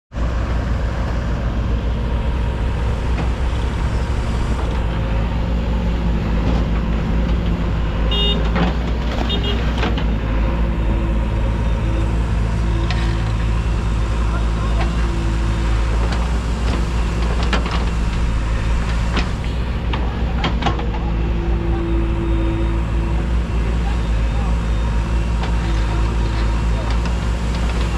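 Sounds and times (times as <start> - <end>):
heavy diesel engine running: 0.1 - 27.9.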